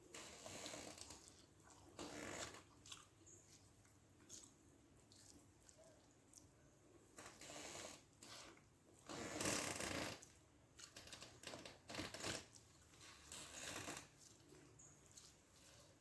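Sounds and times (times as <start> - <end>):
person chewing wetly: 0.0 - 9.4, 10.2 - 16.0.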